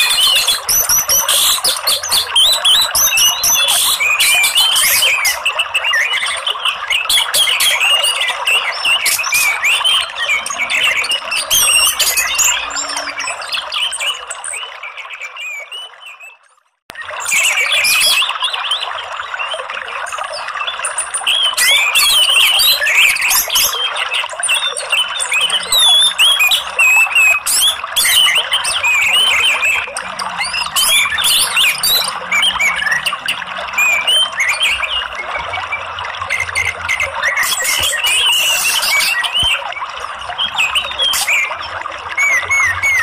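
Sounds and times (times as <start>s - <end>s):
birdsong chirps and warbles: 0.0s - 43.0s
running water: 0.0s - 43.0s.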